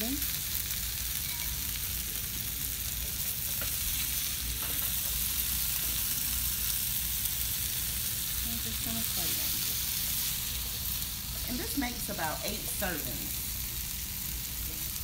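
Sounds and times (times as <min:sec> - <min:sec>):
carrots sizzling in a skillet: 0:00.0 - 0:15.0.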